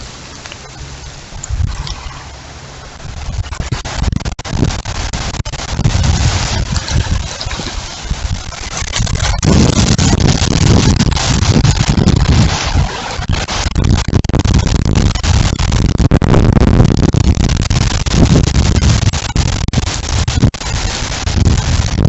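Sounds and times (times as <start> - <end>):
storm wind buffeting microphone: 0.0 - 22.0.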